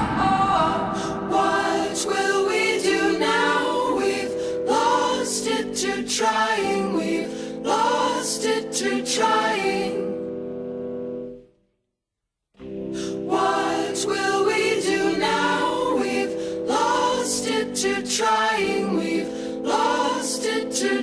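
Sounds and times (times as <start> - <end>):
choir singing held chords: 0.0 - 10.7, 12.7 - 21.0.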